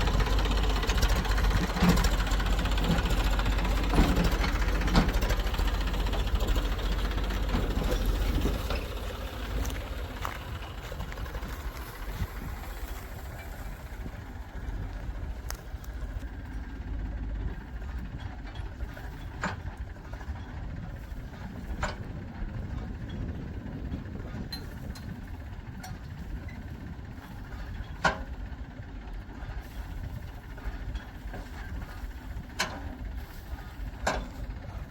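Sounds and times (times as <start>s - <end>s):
heavy machinery diesel engine rumbling: 0.0s - 34.9s.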